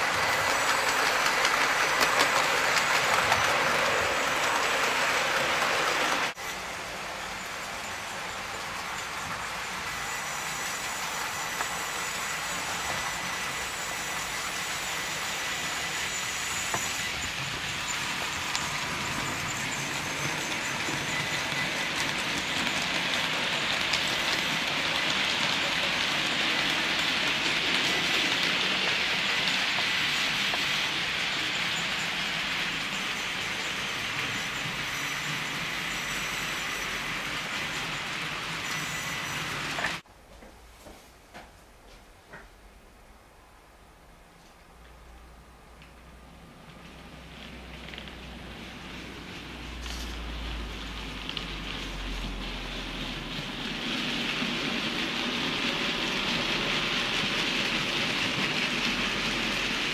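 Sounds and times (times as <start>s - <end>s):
model train whirring on track: 0.0s - 40.1s, 44.9s - 59.9s.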